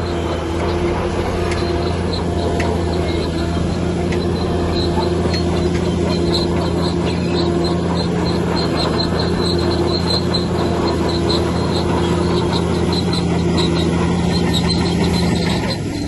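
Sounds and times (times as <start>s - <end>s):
bulldozer diesel engine running: 0.0s - 16.0s
steel tracks squealing: 0.0s - 16.0s.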